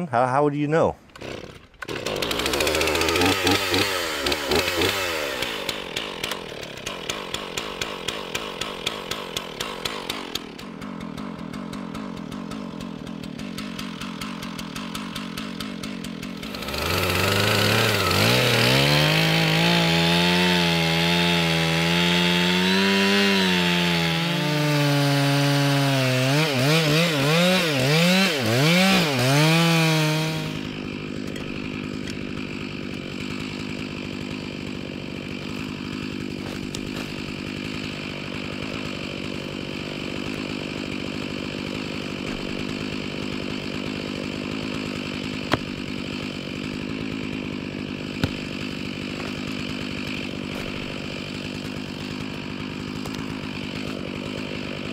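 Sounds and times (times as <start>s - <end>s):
chainsaw engine: 0.0s - 54.9s
chainsaw cutting wood: 1.0s - 54.9s.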